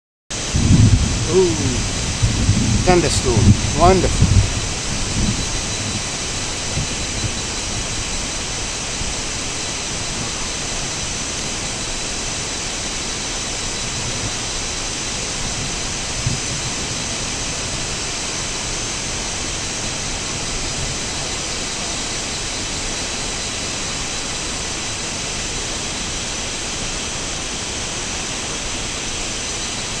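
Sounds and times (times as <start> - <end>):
thin high whine: 0.4 - 27.4
rushing hiss: 0.4 - 30.0.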